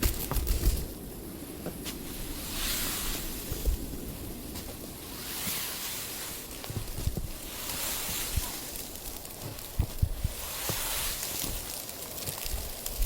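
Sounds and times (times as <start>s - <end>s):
wind blowing in gusts: 0.0s - 13.0s
wind rumble on microphone: 0.0s - 13.0s.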